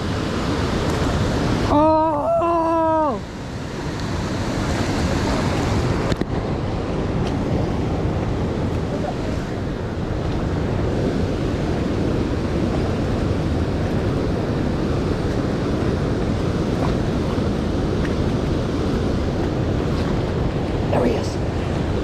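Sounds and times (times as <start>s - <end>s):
river water rushing: 0.0s - 22.0s
wind buffeting microphone: 0.0s - 22.0s.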